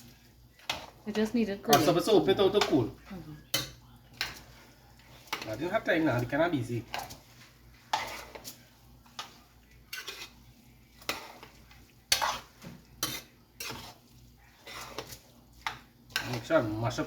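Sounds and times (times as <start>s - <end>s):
spoon scraping cooking pot: 0.0s - 17.0s.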